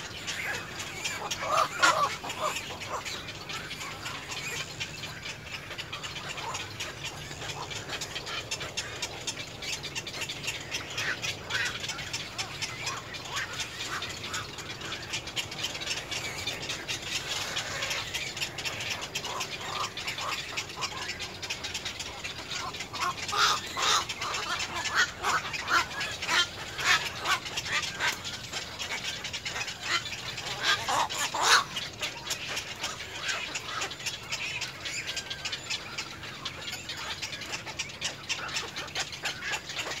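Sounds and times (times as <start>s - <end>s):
birds clicking chatter: 0.0s - 40.0s
harsh quacking bird calls: 0.0s - 40.0s.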